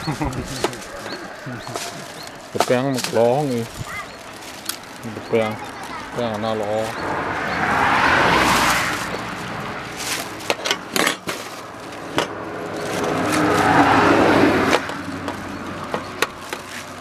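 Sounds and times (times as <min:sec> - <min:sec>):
corn husks crackling: 0:00.0 - 0:17.0
vehicles passing on road: 0:00.0 - 0:17.0.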